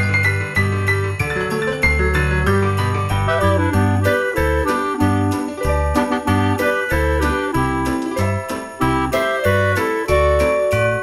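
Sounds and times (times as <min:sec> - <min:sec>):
instrumental music with steady beat: 0:00.0 - 0:11.0.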